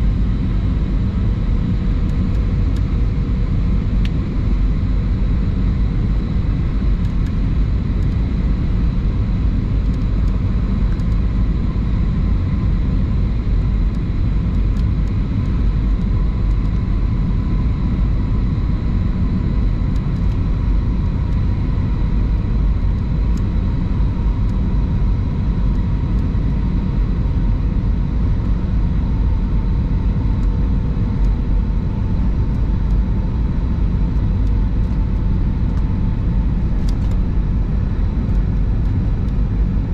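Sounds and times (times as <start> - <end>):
aircraft cabin engine rush: 0.0 - 39.9.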